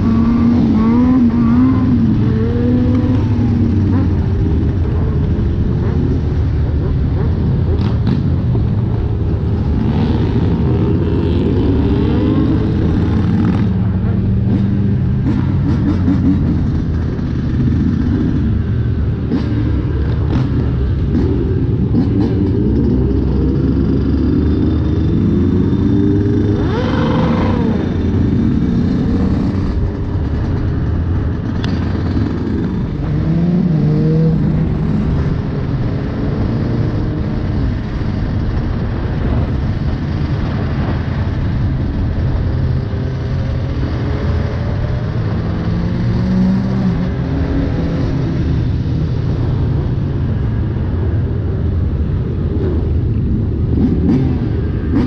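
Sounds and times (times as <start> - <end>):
other motorcycle engines: 0.0 - 55.0.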